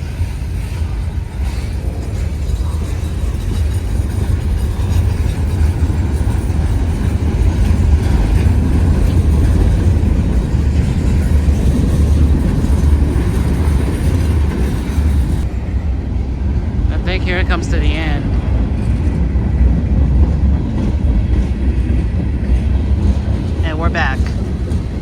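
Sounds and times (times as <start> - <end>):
freight train cars rumbling: 0.0 - 25.0.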